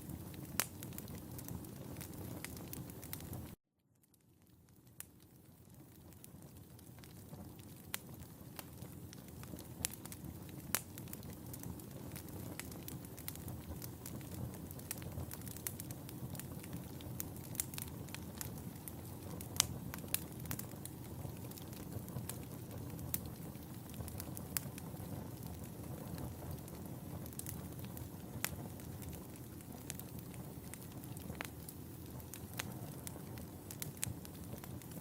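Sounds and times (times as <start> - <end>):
wood fire rumbling: 0.0 - 4.2, 4.8 - 35.0
fire crackling and popping: 0.0 - 35.0.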